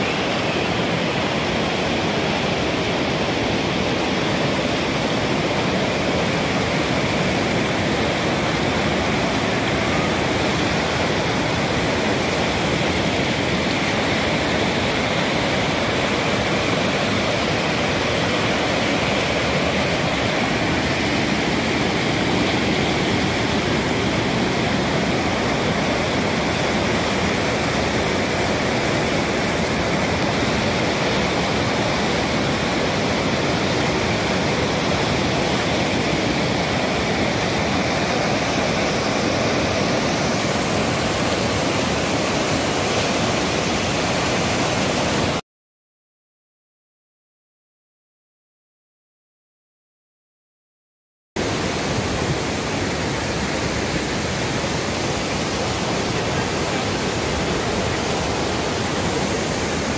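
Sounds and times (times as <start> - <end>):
whitewater rushing over rocks: 0.0 - 45.4, 51.4 - 59.9.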